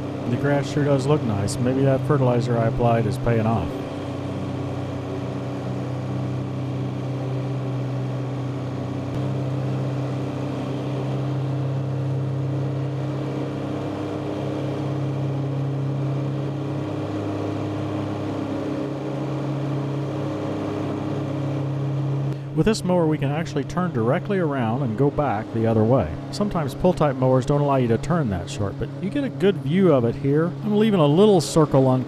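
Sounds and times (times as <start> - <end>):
tractor engine under load: 0.0 - 16.5, 21.8 - 32.0.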